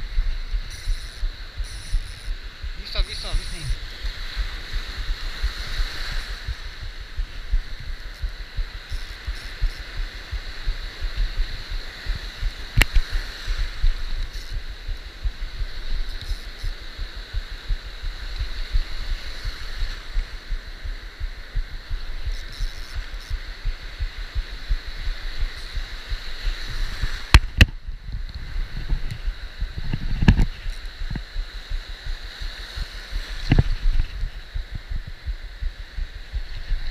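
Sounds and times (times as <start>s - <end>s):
wind knocking on microphone: 0.0s - 36.9s.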